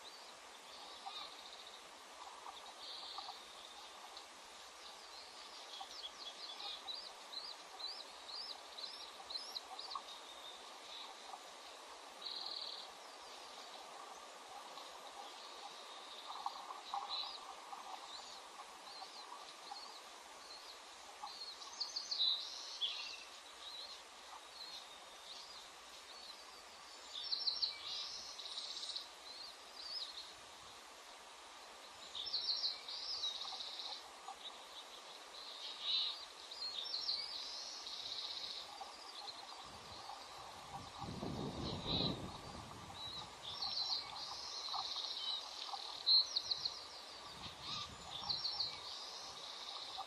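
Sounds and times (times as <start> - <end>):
steady background hiss: 0.0 - 50.0.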